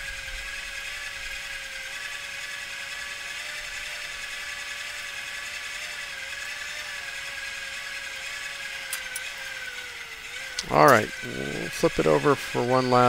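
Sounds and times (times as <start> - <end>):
air blower whirring: 0.0 - 13.0.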